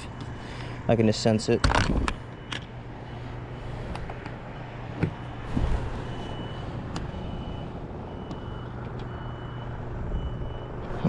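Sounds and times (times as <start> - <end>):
vehicle reversing alarm beeping: 0.0 - 11.0
low engine hum: 1.8 - 11.0.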